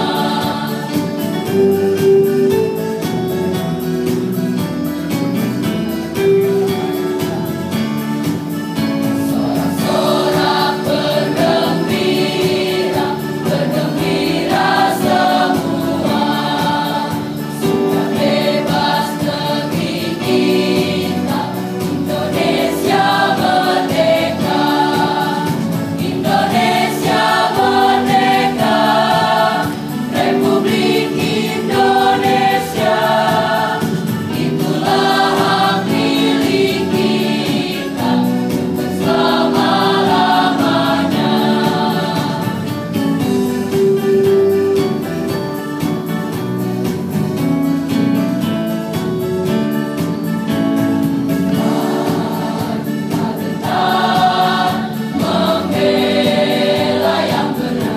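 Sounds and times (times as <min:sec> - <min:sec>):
choir singing: 0:00.0 - 0:45.4, 0:51.0 - 0:57.9.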